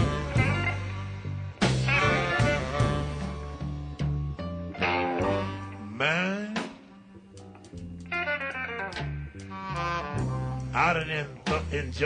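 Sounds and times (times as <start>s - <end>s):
blues band playing: 0.0s - 12.0s.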